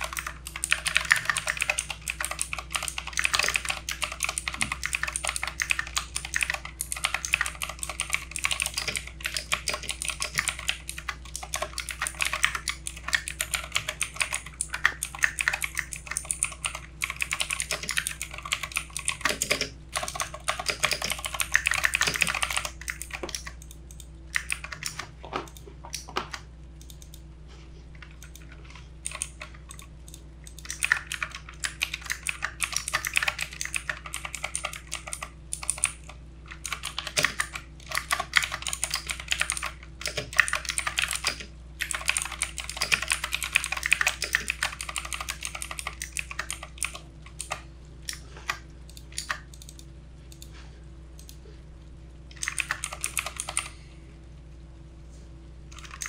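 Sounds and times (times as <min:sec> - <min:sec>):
faint steady low hum: 0:00.0 - 0:56.0.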